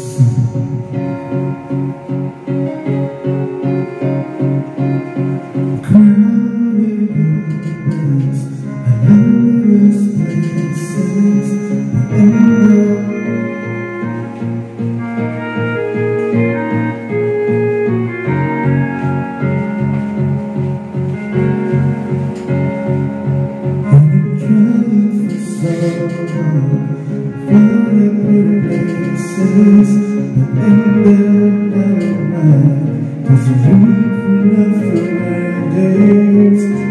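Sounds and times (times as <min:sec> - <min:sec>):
karaoke backing track with strummed guitar: 0:00.0 - 0:36.9.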